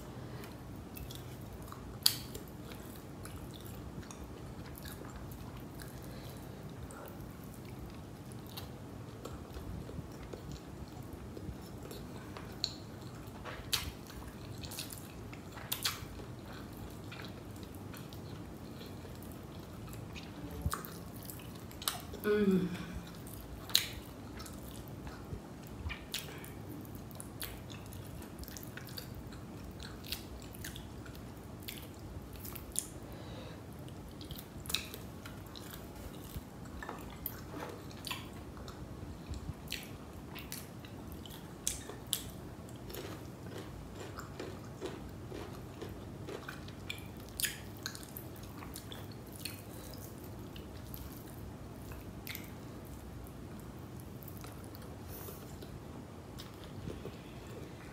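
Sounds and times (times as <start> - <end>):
low background noise: 0.0 - 57.9
chewing with lip smacks: 0.3 - 22.2, 23.0 - 57.9.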